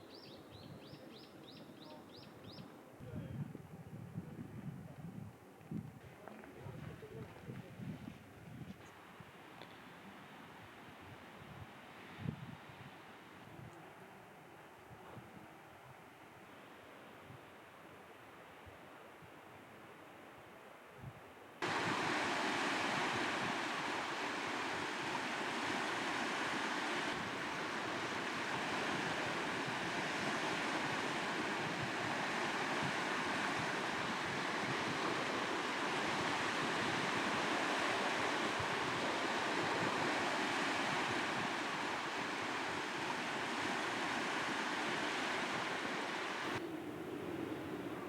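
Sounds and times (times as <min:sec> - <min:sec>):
wind rushing through trees: 0:00.0 - 0:48.0.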